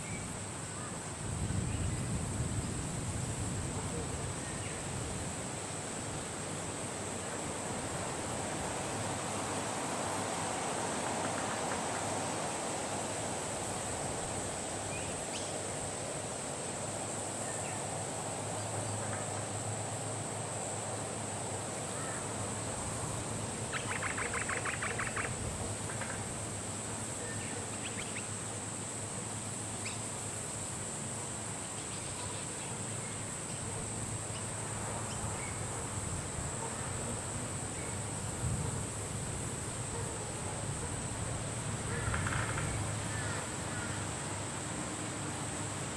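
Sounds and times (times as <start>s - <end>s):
high hiss-like background: 0.0s - 45.9s.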